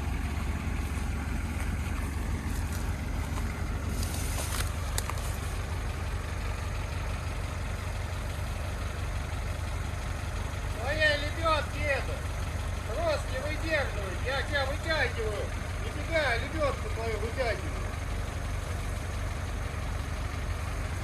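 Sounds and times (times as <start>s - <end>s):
engine running at low revs: 0.0s - 21.0s.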